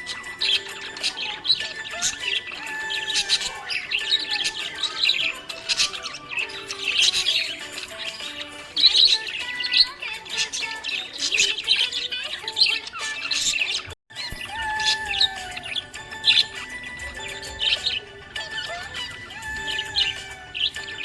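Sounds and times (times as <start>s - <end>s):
background music: 0.0s - 21.0s
parrots chirping: 0.0s - 21.0s.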